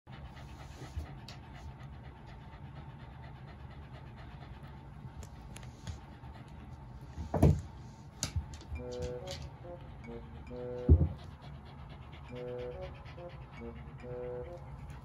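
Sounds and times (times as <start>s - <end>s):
dog panting: 0.1s - 15.0s.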